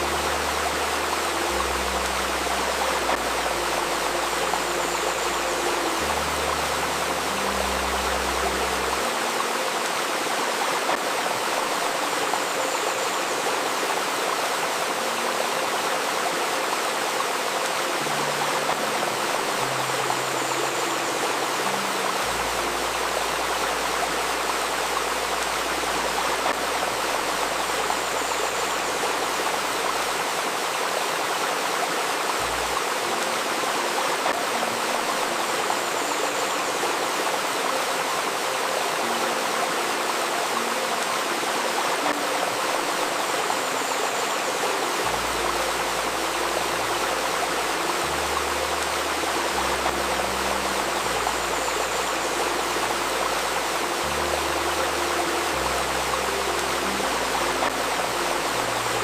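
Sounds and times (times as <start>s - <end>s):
faint steady tone: 0.0s - 59.0s
stream rushing and babbling: 0.0s - 59.0s.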